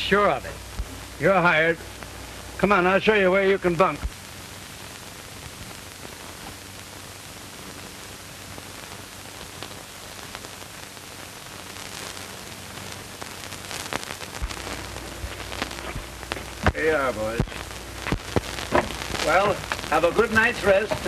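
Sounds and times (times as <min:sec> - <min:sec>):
crackles: 0:00.0 - 0:21.0
film soundtrack hiss: 0:00.0 - 0:21.0.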